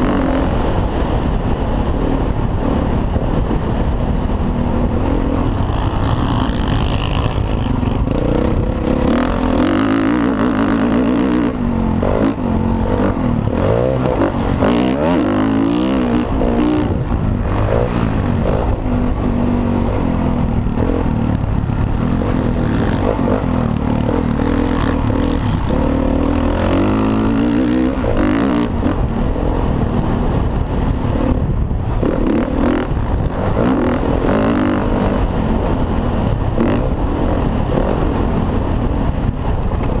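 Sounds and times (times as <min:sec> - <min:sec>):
dirt bike engine revving: 0:00.0 - 0:01.4, 0:02.0 - 0:38.7.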